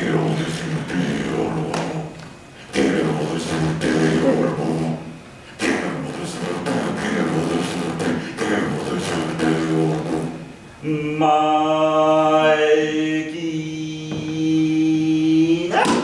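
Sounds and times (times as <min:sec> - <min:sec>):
man singing held note: 0:00.0 - 0:16.0.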